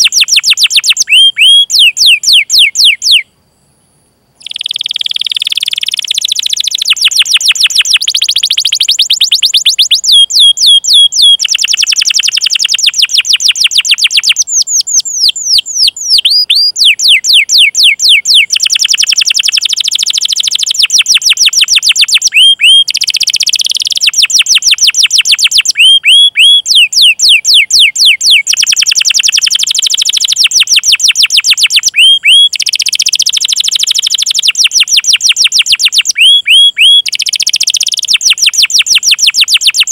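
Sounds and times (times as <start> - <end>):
canary singing trills: 0.0 - 3.3, 4.4 - 39.9.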